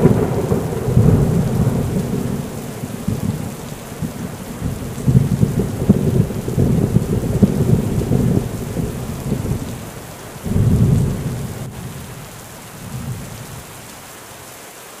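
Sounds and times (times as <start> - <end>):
thunder rumbling: 0.0 - 13.8
steady rain: 0.0 - 15.0.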